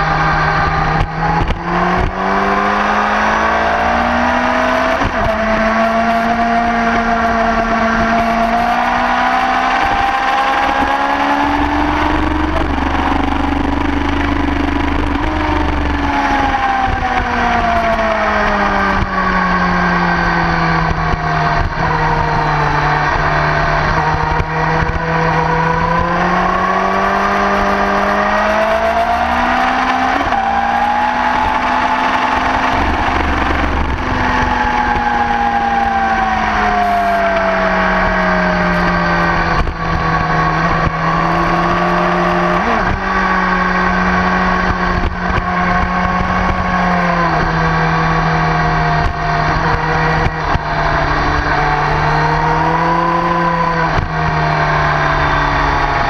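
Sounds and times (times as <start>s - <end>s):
motorcycle engine running hard: 0.0s - 56.0s
wind noise: 0.0s - 56.0s.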